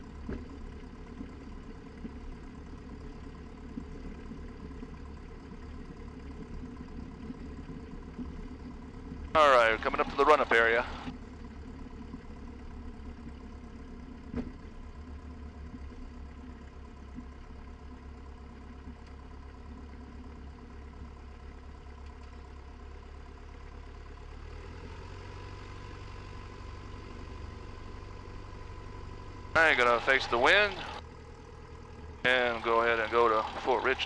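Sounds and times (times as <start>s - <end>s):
aircraft piston engine running: 0.0s - 23.9s, 25.4s - 34.0s
faint steady whine: 0.0s - 34.0s.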